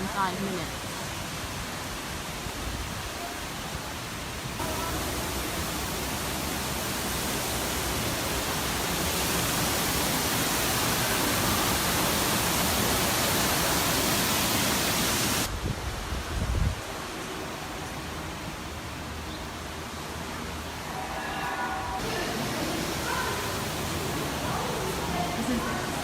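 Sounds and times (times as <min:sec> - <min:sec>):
rushing falling water: 0:00.0 - 0:26.0.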